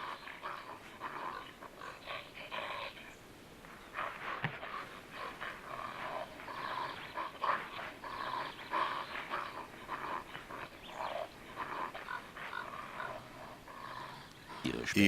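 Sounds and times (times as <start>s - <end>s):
animal rough calls: 0.0s - 15.0s.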